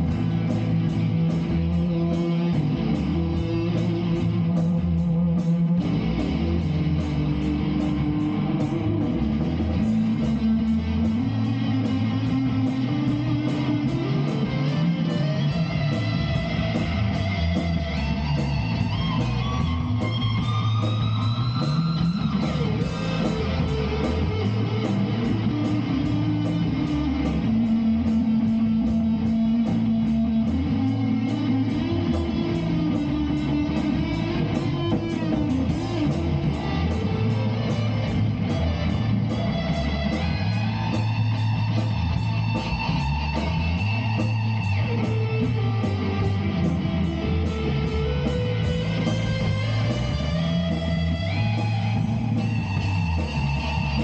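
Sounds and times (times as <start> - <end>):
electric guitar playing: 0.0 - 54.0
low bass notes: 0.0 - 54.0
steady drum beat: 0.0 - 54.0.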